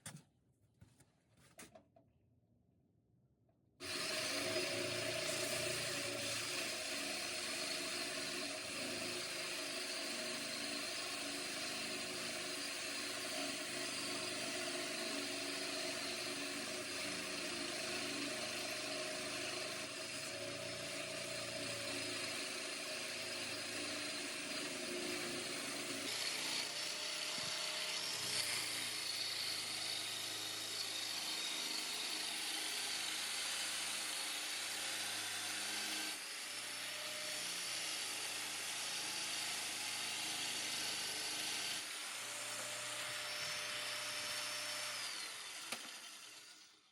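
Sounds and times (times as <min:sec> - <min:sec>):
small power tool motor whining: 0:03.8 - 0:46.9.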